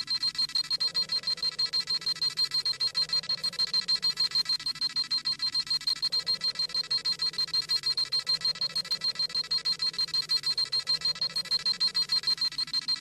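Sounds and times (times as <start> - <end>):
rapid high-pitched electronic beeping: 0.0 - 13.0.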